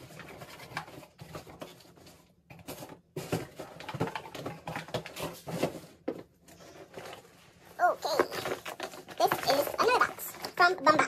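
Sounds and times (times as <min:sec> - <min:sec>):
cardboard box rustling and scraping: 0:00.0 - 0:10.0.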